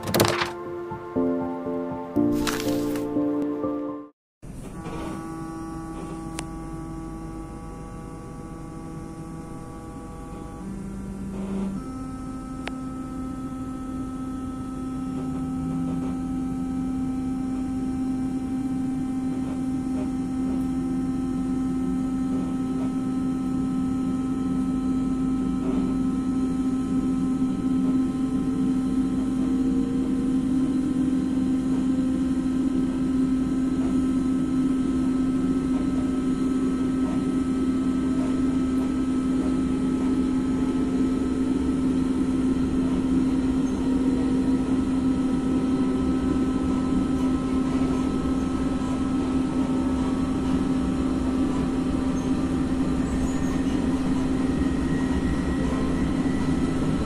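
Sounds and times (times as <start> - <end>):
train motor whine rising: 4.5 - 57.0.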